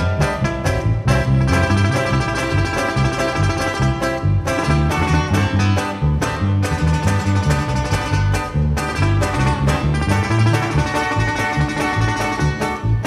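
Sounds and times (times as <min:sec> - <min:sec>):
bouncing bass line: 0:00.0 - 0:13.0
guitars plucked and strummed: 0:00.0 - 0:13.0.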